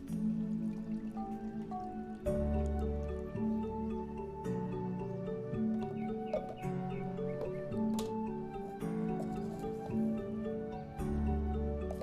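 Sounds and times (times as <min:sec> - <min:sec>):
background music held notes: 0:00.0 - 0:12.0.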